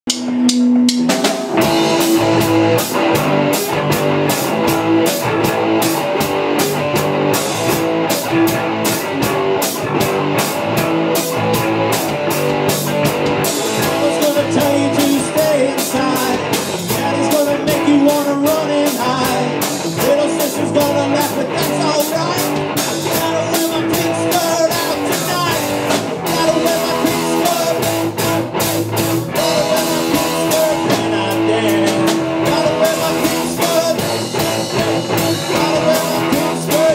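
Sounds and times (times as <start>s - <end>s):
drum kit beat: 0.0s - 36.9s
electric guitars: 0.1s - 36.9s.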